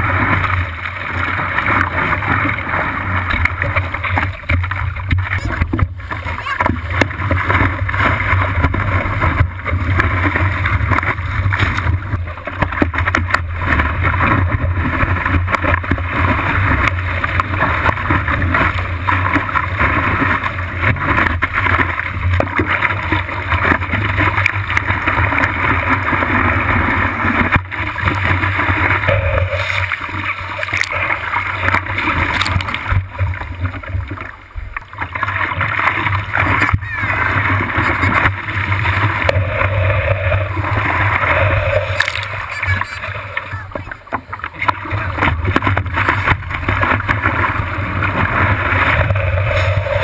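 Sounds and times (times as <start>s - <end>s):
whitewater rushing and splashing: 0.0s - 50.0s.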